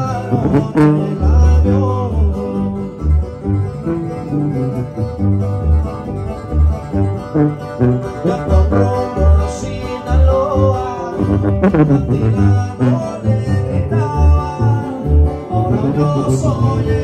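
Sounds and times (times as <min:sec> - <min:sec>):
bouncing bass line: 0:00.0 - 0:17.0
plucked guitars: 0:00.0 - 0:17.0.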